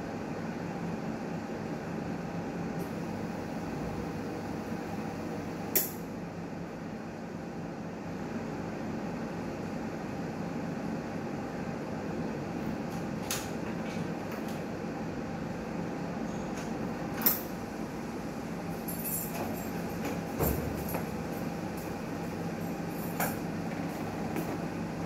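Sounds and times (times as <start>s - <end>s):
autoclave mechanical hum: 0.0s - 25.0s.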